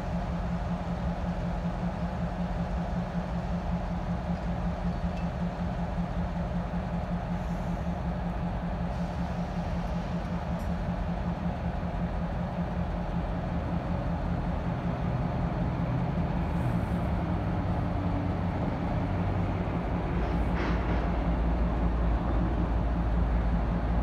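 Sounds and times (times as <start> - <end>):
diesel locomotive engines droning: 0.0 - 24.0.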